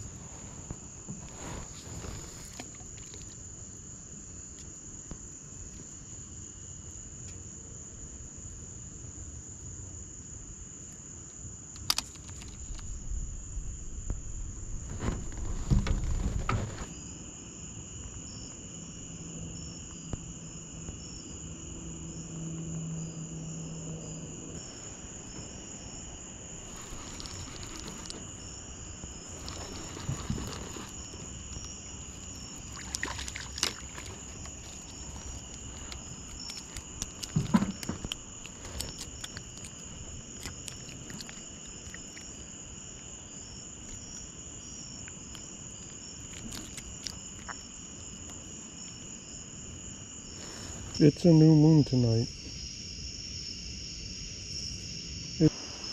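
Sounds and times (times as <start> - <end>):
crickets trilling: 0.0 - 55.9.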